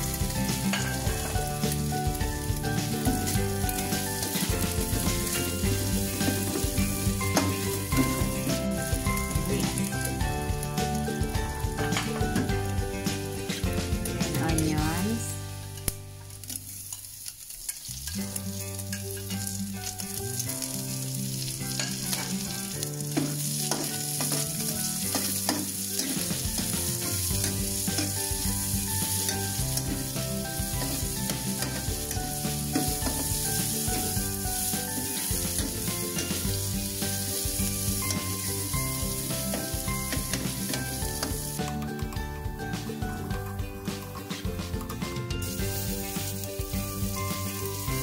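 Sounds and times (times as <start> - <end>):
food sizzling in a wok: 0.0 - 48.0.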